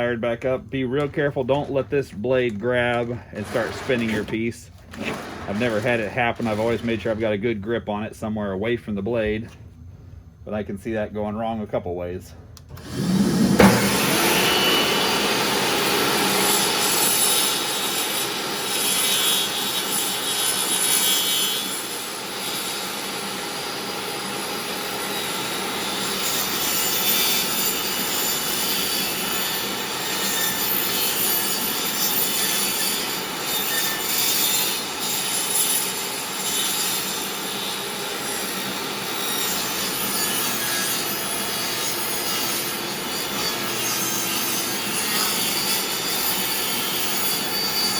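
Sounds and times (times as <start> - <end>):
table saw cutting wood: 0.8 - 7.2, 12.7 - 47.9.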